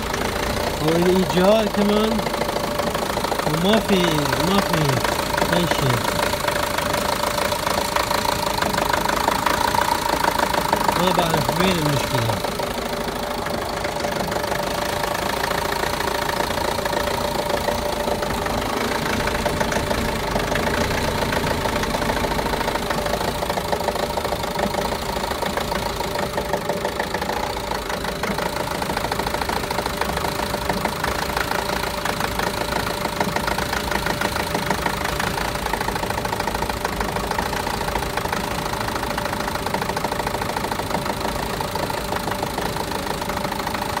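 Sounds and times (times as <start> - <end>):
van engine idling with misfire: 0.0 - 44.0.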